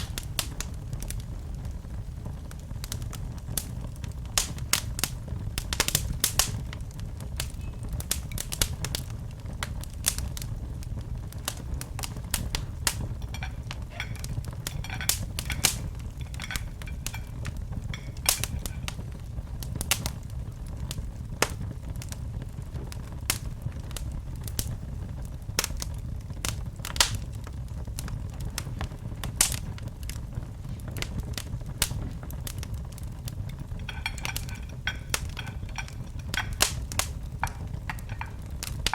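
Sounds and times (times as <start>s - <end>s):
low rumble of fire: 0.0s - 38.9s
wood fire crackling: 0.0s - 38.9s.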